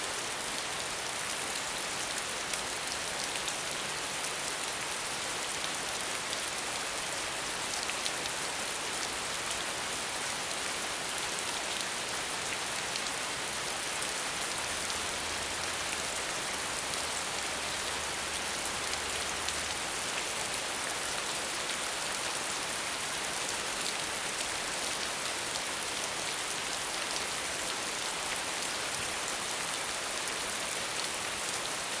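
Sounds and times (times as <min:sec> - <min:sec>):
rain falling on leaves: 0:00.0 - 0:32.0.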